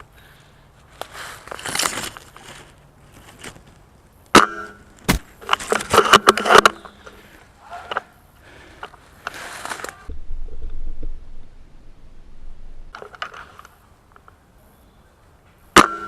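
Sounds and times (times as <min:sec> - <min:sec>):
rustling: 0:00.0 - 0:04.1, 0:04.9 - 0:14.4.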